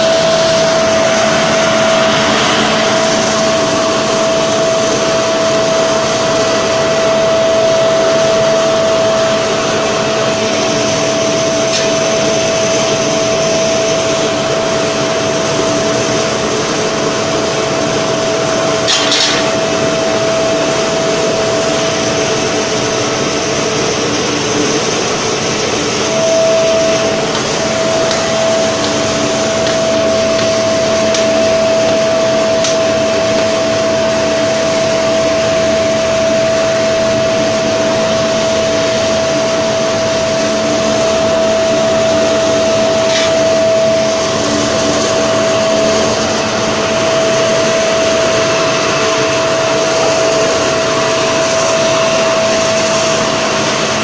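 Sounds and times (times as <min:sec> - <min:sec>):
air blower rushing and whining: 0:00.0 - 0:54.0.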